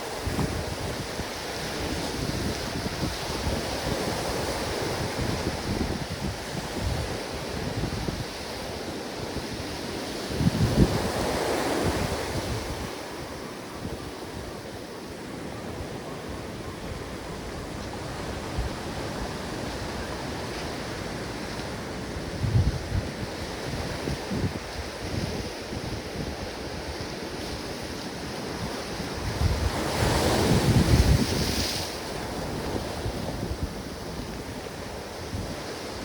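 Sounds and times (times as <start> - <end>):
wind buffeting microphone: 0.0 - 15.1, 16.0 - 36.0.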